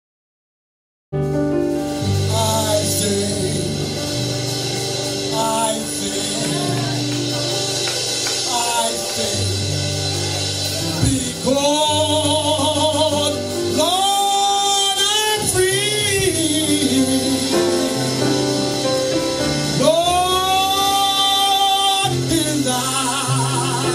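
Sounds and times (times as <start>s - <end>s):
keyboard chords: 1.2s - 23.9s
person singing gospel: 2.1s - 23.9s.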